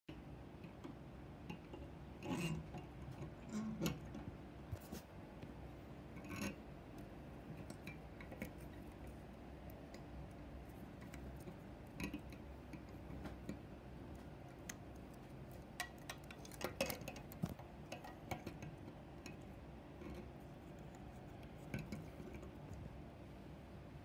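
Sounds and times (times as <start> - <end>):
low room hum: 0.1 - 24.0.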